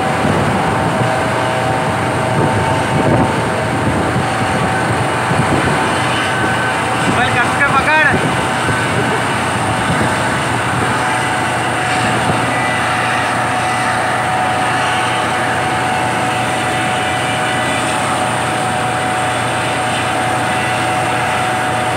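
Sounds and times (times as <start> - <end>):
helicopter rotor running: 0.0 - 21.9.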